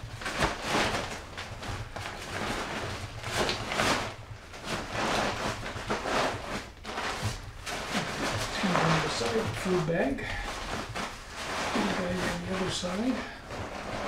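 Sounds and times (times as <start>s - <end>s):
nylon fabric rustling: 0.0s - 14.0s.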